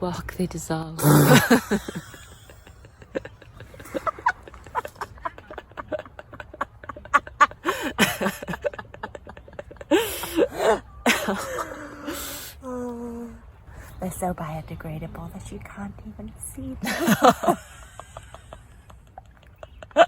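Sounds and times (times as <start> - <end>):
people laughing quietly: 1.0 - 14.1, 16.6 - 20.0.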